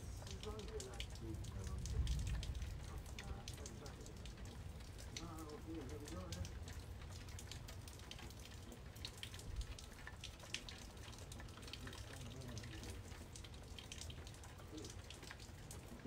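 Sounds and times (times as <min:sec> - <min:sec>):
rain dripping and pattering: 0:00.0 - 0:16.0.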